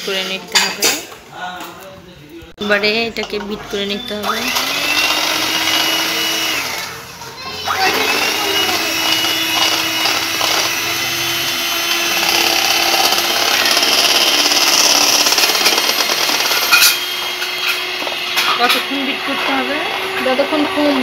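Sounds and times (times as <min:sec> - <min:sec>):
electric mixer running: 0:04.0 - 0:21.0.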